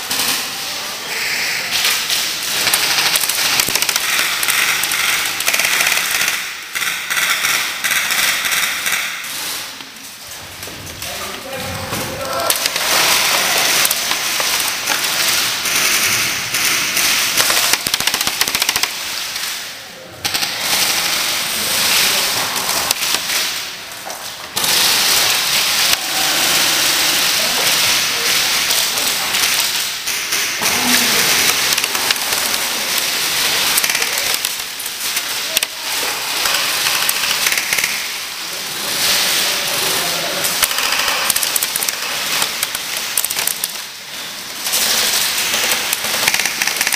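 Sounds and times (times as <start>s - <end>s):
airsoft guns firing bursts: 1.8s - 9.6s, 12.5s - 19.6s, 20.2s - 23.7s, 24.6s - 39.4s, 40.4s - 46.9s.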